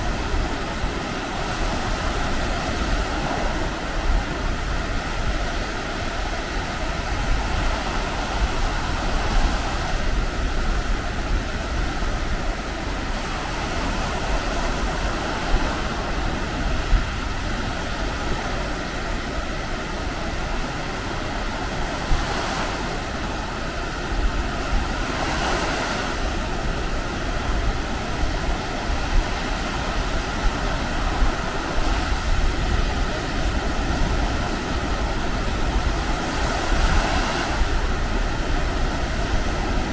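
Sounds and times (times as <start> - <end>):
surf washing onto beach: 0.0 - 39.9
wind rumbling on microphone: 0.0 - 39.9.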